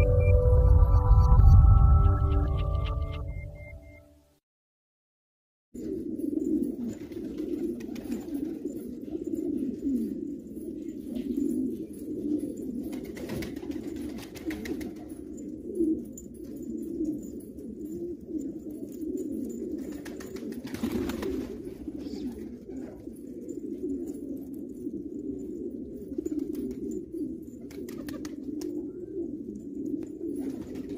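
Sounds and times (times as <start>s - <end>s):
pigeons cooing: 5.8s - 30.9s.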